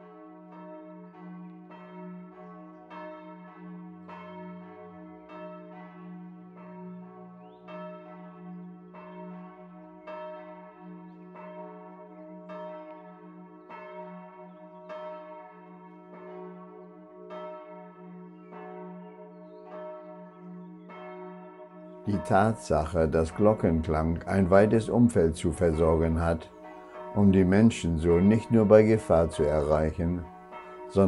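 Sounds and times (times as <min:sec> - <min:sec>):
church bell ringing: 0:00.0 - 0:31.0.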